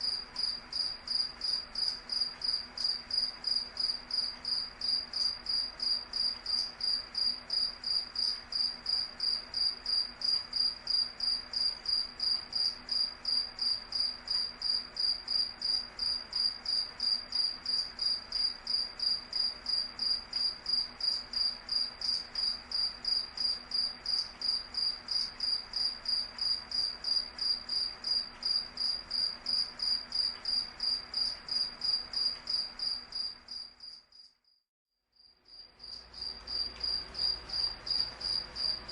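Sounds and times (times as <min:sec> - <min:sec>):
cricket chirping: 0:00.0 - 0:34.6, 0:35.2 - 0:38.9.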